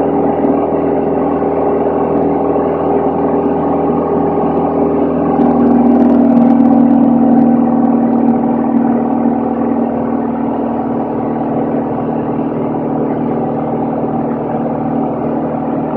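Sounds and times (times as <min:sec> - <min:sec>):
airplane engine and propeller drone: 0:00.0 - 0:15.9.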